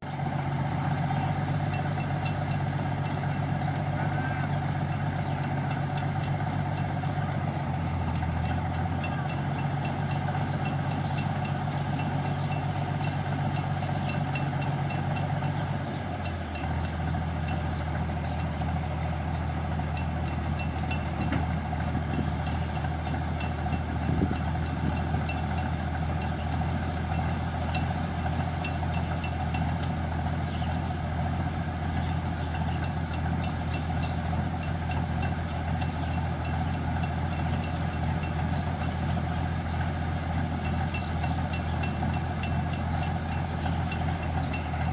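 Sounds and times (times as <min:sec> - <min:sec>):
combine harvester engine running: 0:00.0 - 0:44.9
faint regular ticking: 0:00.8 - 0:44.9.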